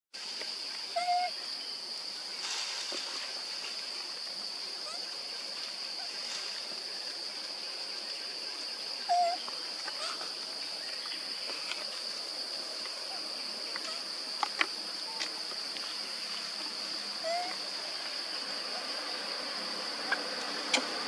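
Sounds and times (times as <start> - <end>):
insects droning: 0.2 - 21.0.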